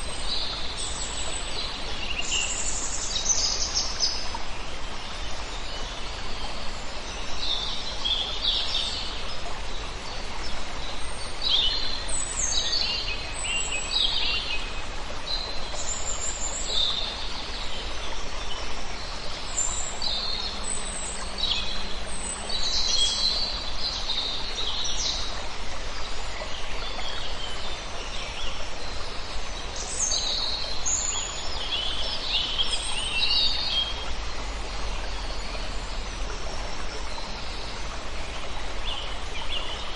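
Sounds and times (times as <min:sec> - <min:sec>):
flowing stream water: 0:00.0 - 0:39.9
songbirds chirping and trilling: 0:00.0 - 0:39.9.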